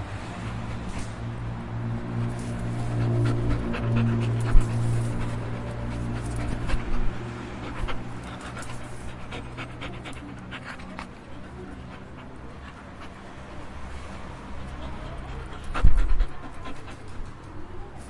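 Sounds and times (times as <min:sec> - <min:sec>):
steady low hum: 0:00.0 - 0:17.3
dog panting: 0:00.0 - 0:18.0.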